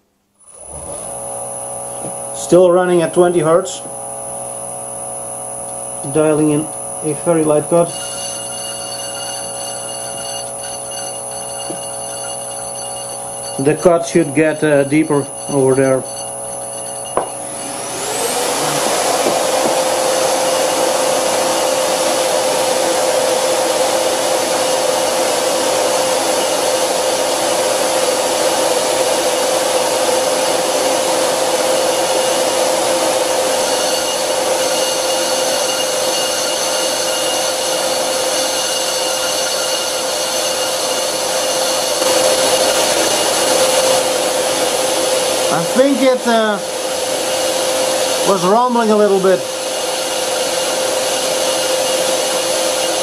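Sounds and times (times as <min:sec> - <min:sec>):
lathe cutting metal: 0:00.5 - 0:53.0.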